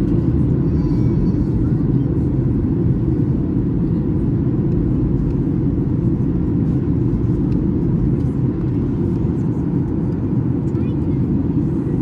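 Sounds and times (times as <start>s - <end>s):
aircraft cabin rumble: 0.0s - 12.0s.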